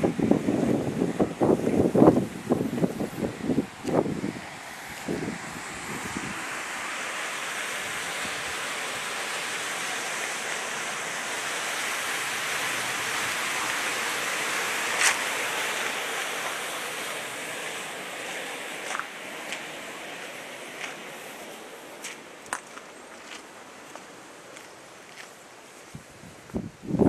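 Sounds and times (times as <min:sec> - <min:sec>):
water rushing at a dam: 0:00.0 - 0:27.0.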